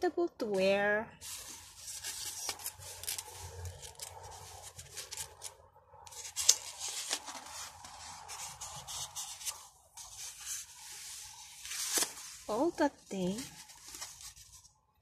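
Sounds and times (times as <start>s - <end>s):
page turning: 1.2s - 14.7s
paper rustling and crinkling: 1.2s - 14.7s.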